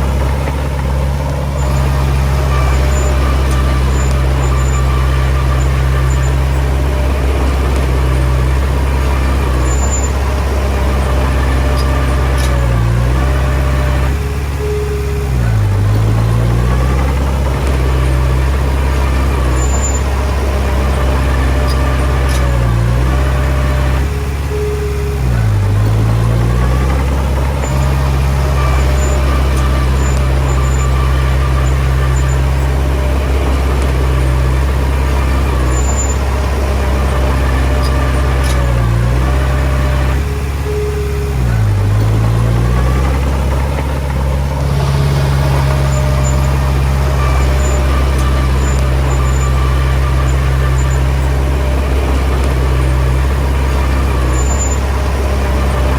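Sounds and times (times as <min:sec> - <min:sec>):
bulldozer diesel engine under load: 0:00.0 - 0:55.9.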